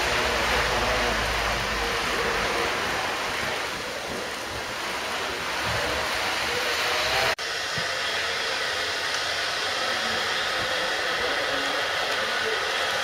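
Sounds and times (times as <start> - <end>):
faint distant voices: 0.0 - 13.0
model trains running: 0.0 - 13.0.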